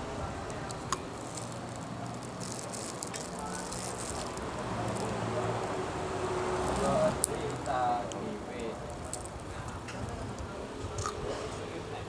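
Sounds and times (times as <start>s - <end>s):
peanut shells cracking: 0.4s - 5.9s, 6.5s - 11.2s.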